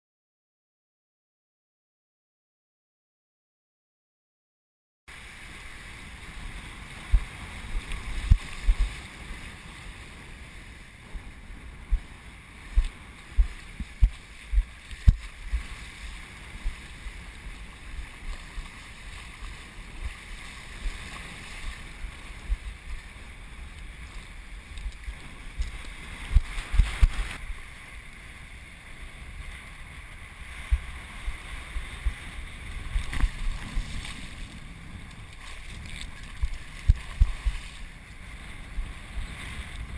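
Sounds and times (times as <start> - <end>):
shallow surf washing: 5.1 - 39.9
wind buffeting microphone: 5.2 - 39.9.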